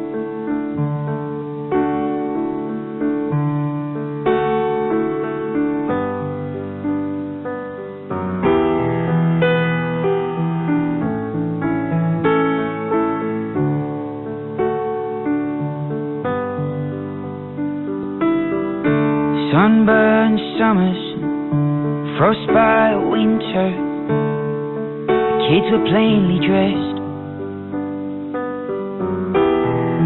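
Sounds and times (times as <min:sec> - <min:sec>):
slow gentle piano: 0:00.0 - 0:30.0.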